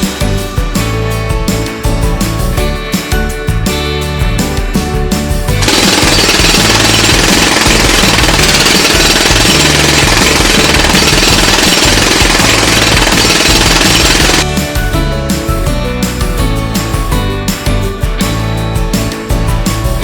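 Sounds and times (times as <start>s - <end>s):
loud rapid rattling: 0.0s - 20.0s.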